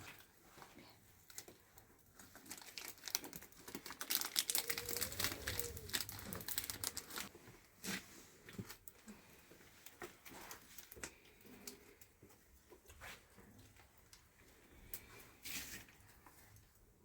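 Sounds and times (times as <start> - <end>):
small clicks and crackles: 0.0 - 16.8
crinkling and rustling: 0.0 - 17.0.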